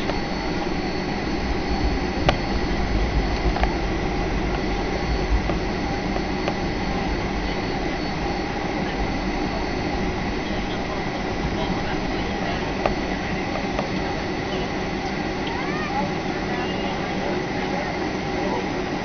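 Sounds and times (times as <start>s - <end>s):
jet engine drone: 0.0s - 19.0s
thin engine whine: 0.0s - 19.0s.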